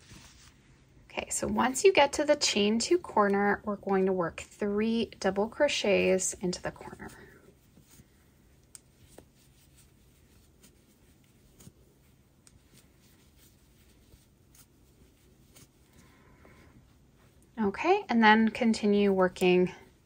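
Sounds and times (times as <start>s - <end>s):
yarn rustling: 0.0s - 20.0s.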